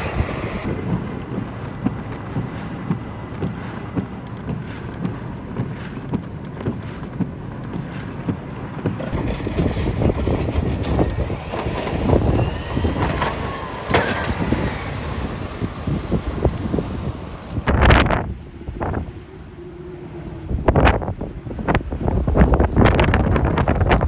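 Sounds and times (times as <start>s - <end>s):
blizzard wind buffeting microphone: 0.0s - 24.0s.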